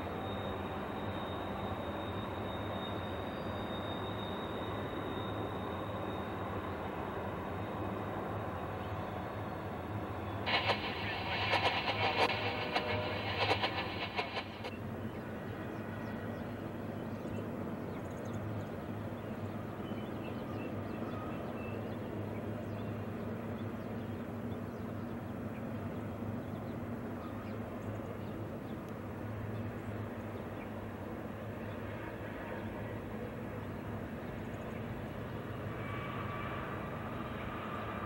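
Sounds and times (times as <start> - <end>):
distant locomotive engine drone: 0.0 - 38.0.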